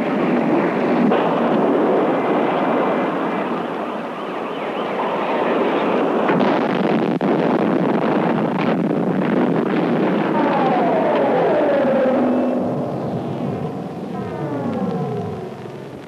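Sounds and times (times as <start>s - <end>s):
fire roaring: 0.0s - 16.0s.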